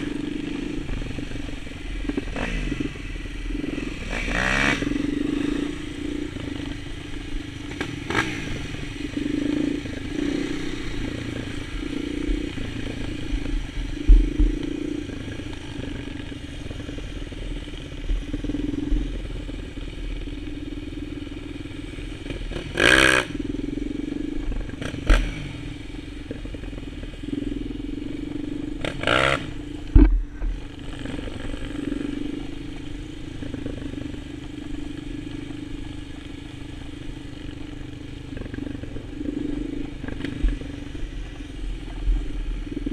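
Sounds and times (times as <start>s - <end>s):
quad bike engine revving: 0.0s - 42.9s.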